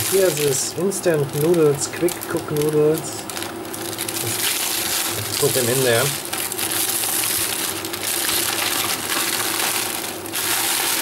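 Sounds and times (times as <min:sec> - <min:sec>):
plastic wrapping crackling: 0:00.0 - 0:11.0
water hissing in pot: 0:00.0 - 0:11.0.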